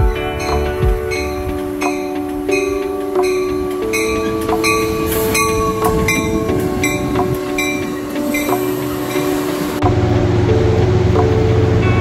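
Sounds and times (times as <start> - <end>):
steady beat: 0.0 - 11.7
background music with sustained chords: 0.0 - 12.0.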